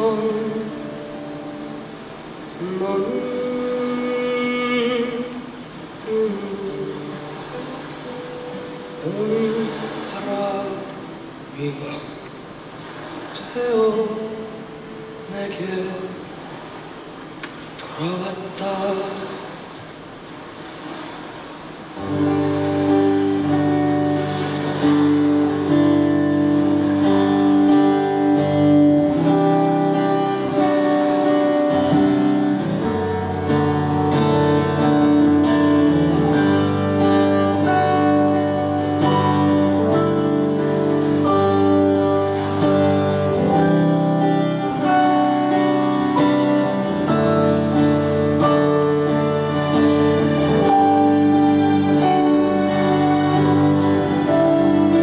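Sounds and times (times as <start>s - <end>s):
acoustic guitar ballad with band: 0.0s - 55.0s.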